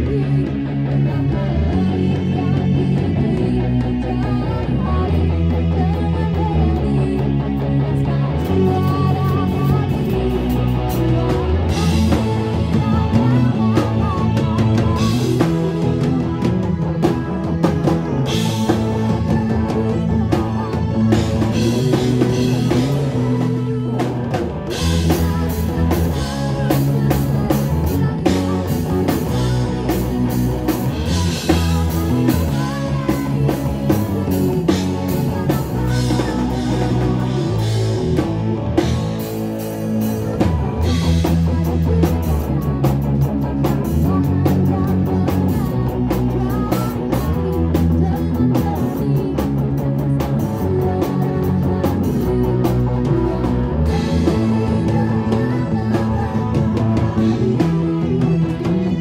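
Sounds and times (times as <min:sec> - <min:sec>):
drum kit played with sticks: 0:00.0 - 0:59.0.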